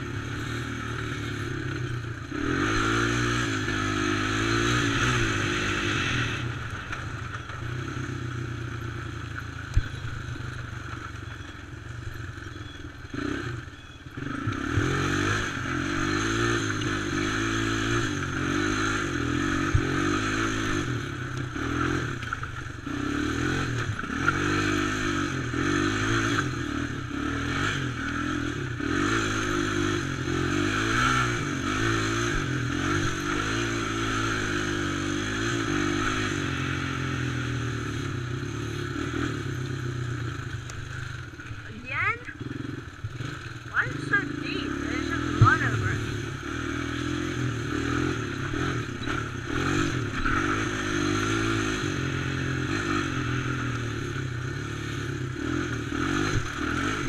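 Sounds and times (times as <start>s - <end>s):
quad engine revving: 0.0s - 7.0s, 13.1s - 40.5s, 41.1s - 57.0s.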